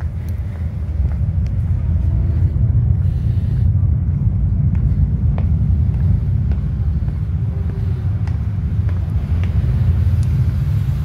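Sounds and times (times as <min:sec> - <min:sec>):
deep rumble: 0:00.0 - 0:11.0.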